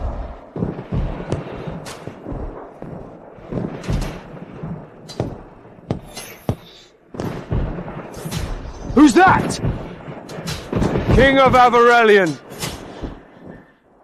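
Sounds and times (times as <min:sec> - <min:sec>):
low rumble: 0:00.0 - 0:11.4.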